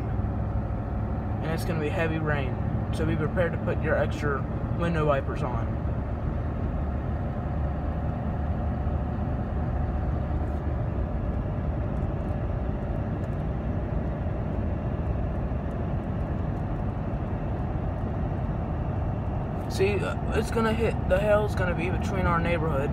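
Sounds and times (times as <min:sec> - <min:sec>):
truck road and engine noise: 0:00.0 - 0:22.9.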